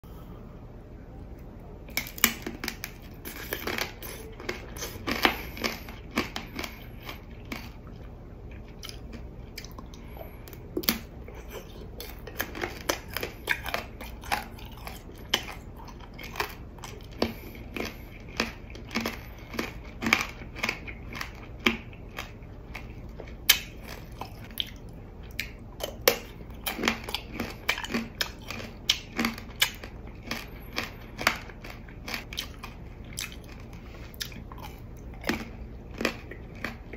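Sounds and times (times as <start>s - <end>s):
crunchy candy being bitten and chewed: 1.9s - 36.9s.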